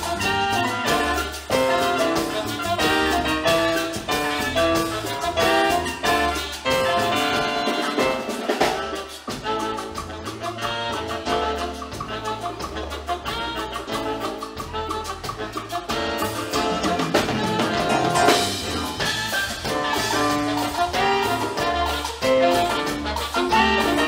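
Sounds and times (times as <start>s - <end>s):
latin dance band instrumental: 0.0s - 24.0s.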